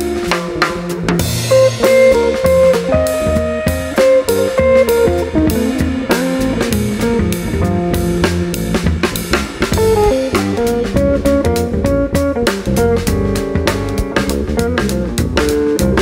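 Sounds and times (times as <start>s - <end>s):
drum and cymbal hits: 0.0s - 16.0s
electric bass: 0.0s - 16.0s
electric guitar: 0.0s - 16.0s.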